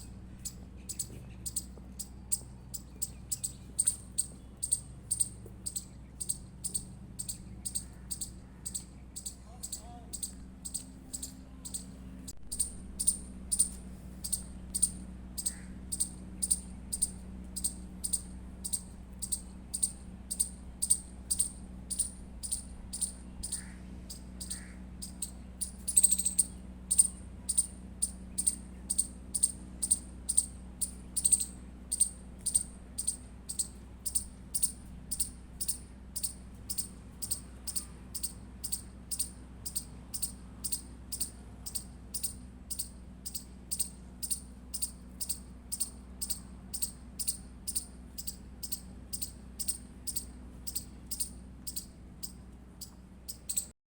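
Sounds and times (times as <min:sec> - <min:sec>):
squirrel chirping: 0:00.0 - 0:53.8.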